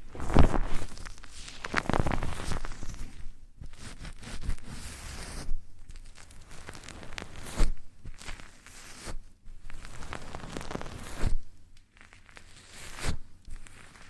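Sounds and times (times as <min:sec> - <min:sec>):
close rustling and scraping: 0:00.0 - 0:11.4.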